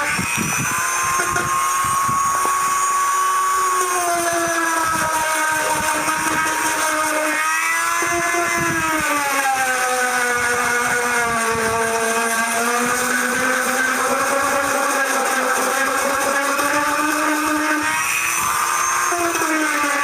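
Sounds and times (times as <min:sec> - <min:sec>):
rotary tool sanding whine: 0:00.0 - 0:20.0.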